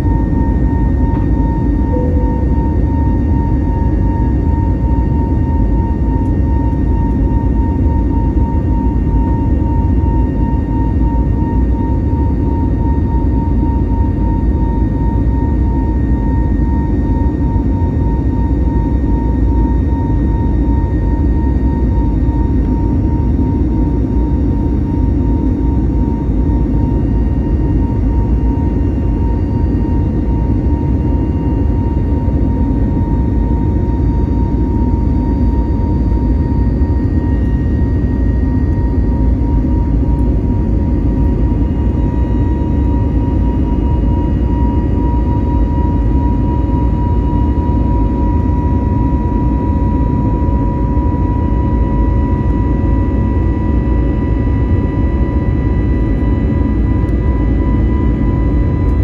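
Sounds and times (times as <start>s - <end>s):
jet engine roar in cabin: 0.0s - 59.0s.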